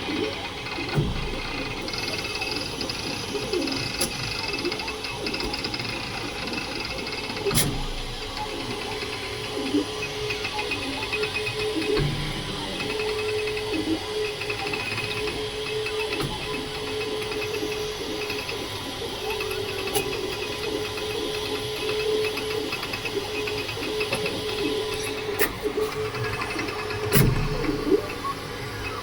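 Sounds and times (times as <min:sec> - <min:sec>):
printer motor whine: 0:00.0 - 0:29.0.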